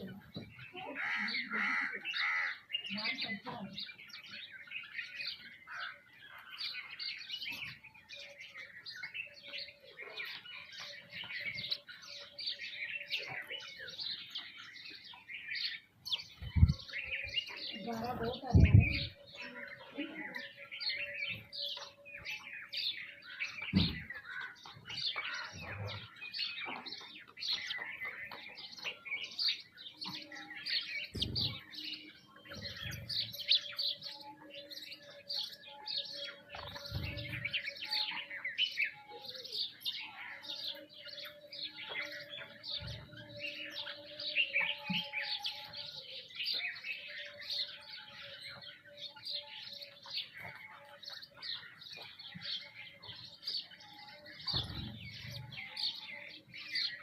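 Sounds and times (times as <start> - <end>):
flock of small birds chirping: 0.0 - 57.0.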